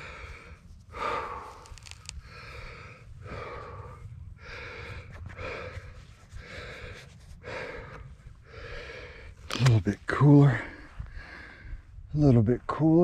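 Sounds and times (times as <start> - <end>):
man breathing hard: 0.0 - 9.5, 10.5 - 12.0.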